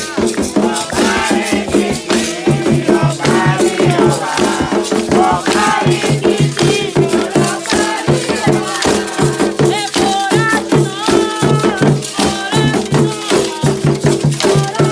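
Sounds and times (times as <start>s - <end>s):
drums beating steady rhythm: 0.0s - 14.9s
shaken rattles: 0.0s - 14.9s
voices singing a chant: 0.0s - 14.9s.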